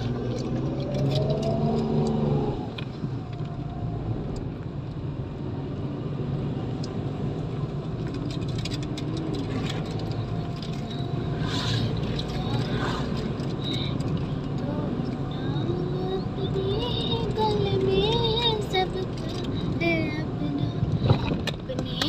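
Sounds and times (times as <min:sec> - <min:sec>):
car driving rumble: 0:00.0 - 0:22.0.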